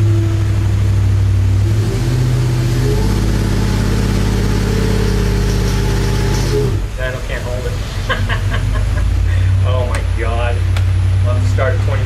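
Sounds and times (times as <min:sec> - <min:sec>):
engine running loud: 0:00.0 - 0:12.0.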